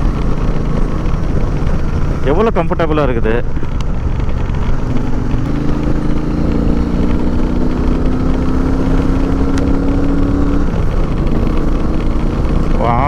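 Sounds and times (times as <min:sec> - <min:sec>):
motorcycle engine pulling: 0:00.0 - 0:13.0.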